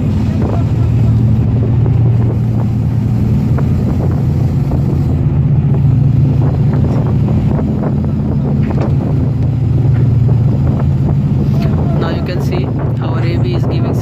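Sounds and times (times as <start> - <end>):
boat diesel engines humming: 0.0 - 14.0
wind buffeting microphone: 0.0 - 14.0.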